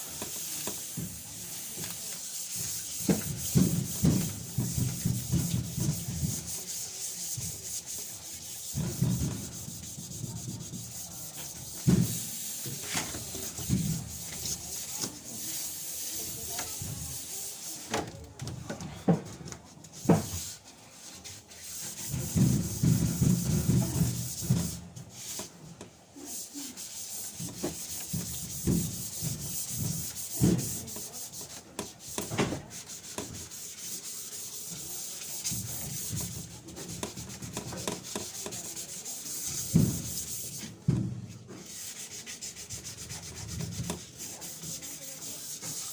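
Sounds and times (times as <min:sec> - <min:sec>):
sandpaper scrubbing sheet metal: 0:00.0 - 0:17.9, 0:19.9 - 0:25.6, 0:26.2 - 0:40.8, 0:41.5 - 0:45.9.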